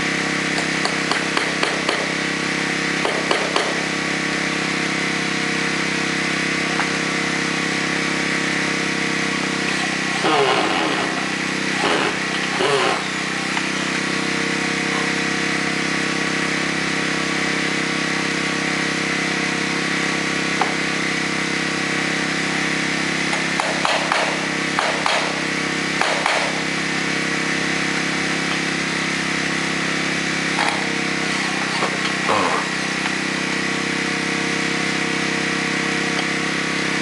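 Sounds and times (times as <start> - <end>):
small engine humming: 0.0 - 37.0.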